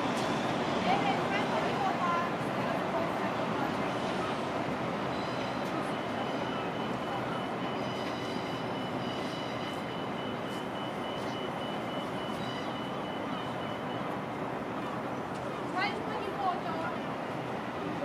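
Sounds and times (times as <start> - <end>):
city and railway ambience: 0.0 - 18.0.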